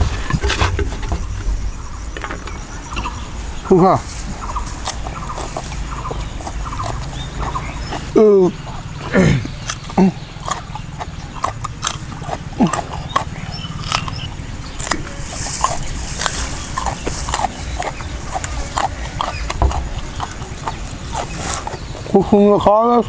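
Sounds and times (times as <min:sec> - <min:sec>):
low steady rumble: 0:00.0 - 0:23.0
chewing and lip-smacking: 0:04.1 - 0:23.0.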